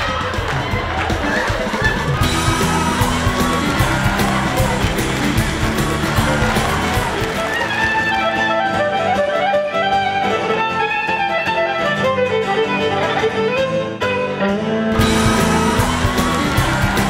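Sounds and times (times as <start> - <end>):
fiddle playing fast tune: 2.0 - 17.0.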